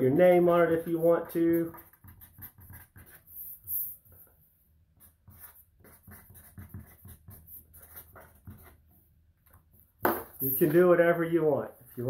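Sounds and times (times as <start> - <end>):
marker scratching on paper: 0.6 - 10.5.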